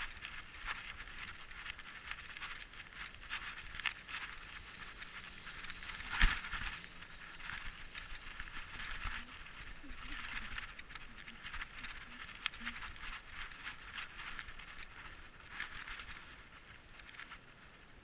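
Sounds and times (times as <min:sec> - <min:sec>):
bicycle clattering over grass: 0:00.0 - 0:18.0.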